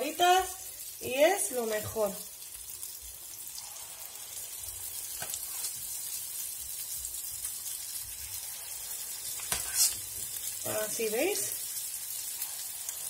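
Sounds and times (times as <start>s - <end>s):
fritters sizzling in oil: 0.0s - 13.0s.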